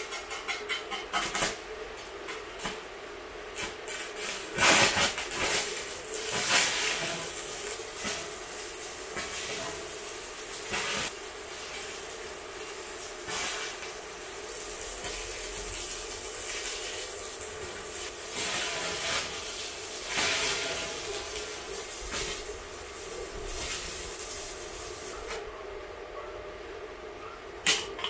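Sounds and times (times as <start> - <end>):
welding arc crackling and hissing: 0.0 - 25.4
steady hum: 0.9 - 28.0.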